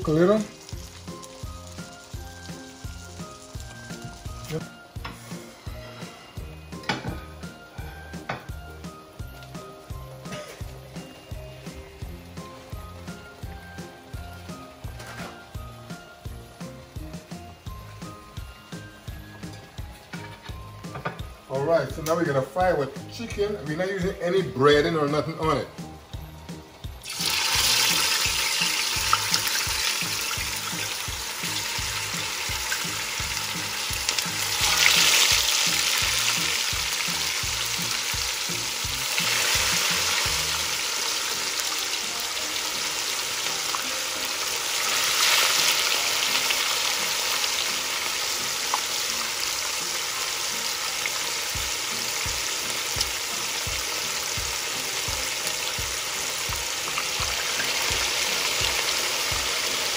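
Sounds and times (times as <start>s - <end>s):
chicken frying in hot oil: 0.0s - 59.9s.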